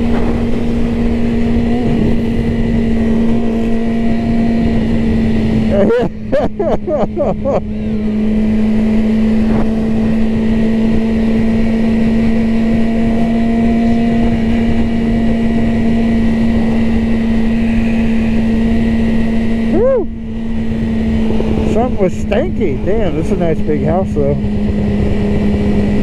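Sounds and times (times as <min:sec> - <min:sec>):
wind on microphone: 0:00.0 - 0:05.8, 0:07.9 - 0:26.0
motorcycle engine cruising: 0:00.0 - 0:26.0.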